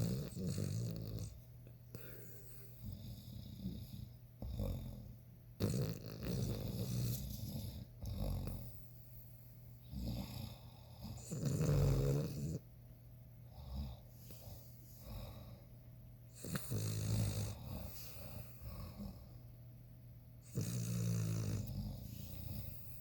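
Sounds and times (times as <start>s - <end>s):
dog snoring: 0.0s - 9.2s, 9.8s - 12.7s, 13.4s - 15.7s, 16.3s - 19.4s, 20.4s - 23.0s.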